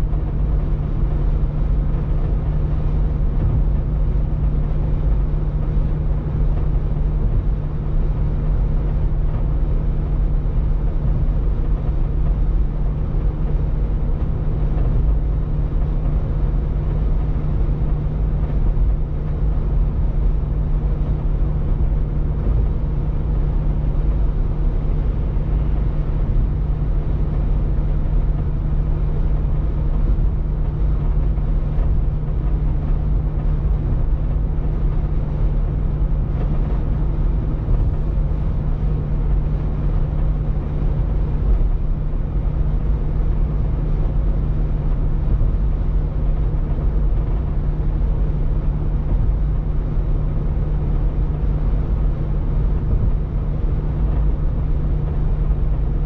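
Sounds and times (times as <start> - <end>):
car cabin road rumble: 0.0 - 56.0
steady low hum: 0.0 - 56.0.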